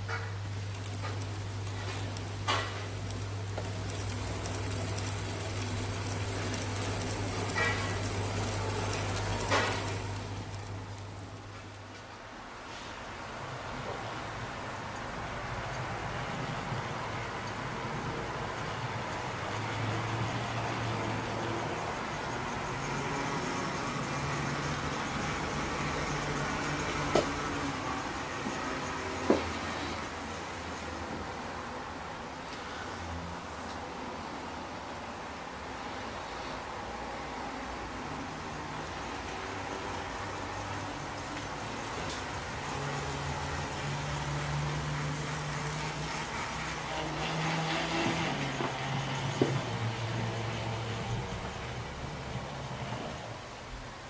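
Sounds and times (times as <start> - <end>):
gears and wheels rattling: 0.0 - 11.9, 14.8 - 31.5, 37.7 - 53.6
model locomotive motor hum: 0.1 - 11.7, 14.8 - 31.4, 37.5 - 53.6.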